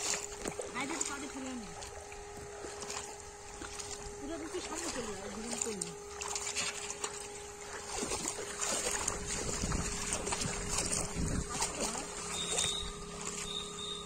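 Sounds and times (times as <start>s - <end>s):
splashing in muddy water: 0.0s - 14.0s
steady background hum: 0.0s - 14.0s.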